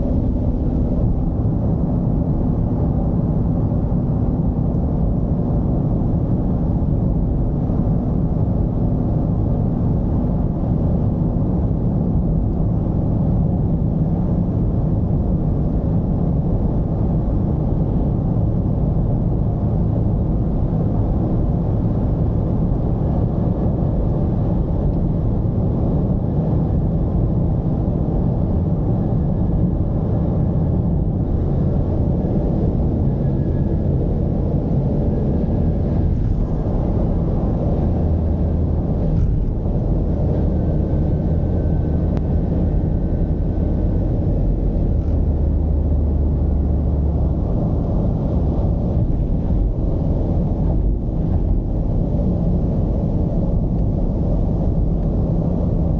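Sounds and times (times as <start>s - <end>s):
diesel engine drone while driving: 0.0s - 55.9s
road noise: 0.0s - 55.9s.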